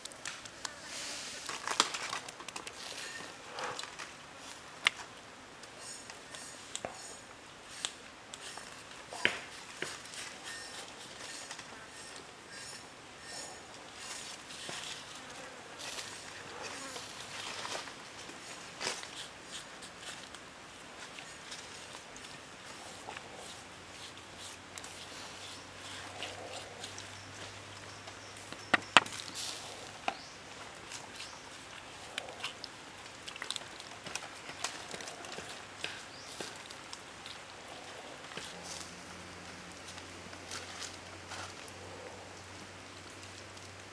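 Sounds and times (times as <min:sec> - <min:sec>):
low background hiss: 0:00.0 - 0:43.9.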